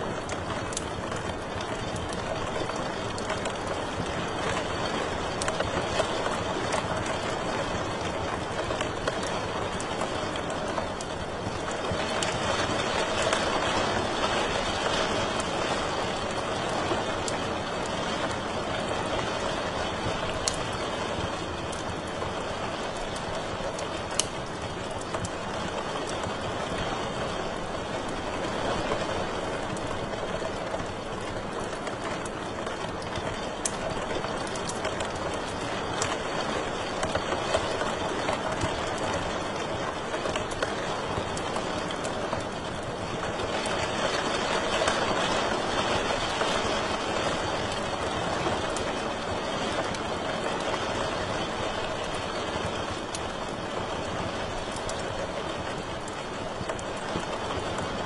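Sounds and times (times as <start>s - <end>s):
fire hissing with crackles: 0.0s - 58.0s.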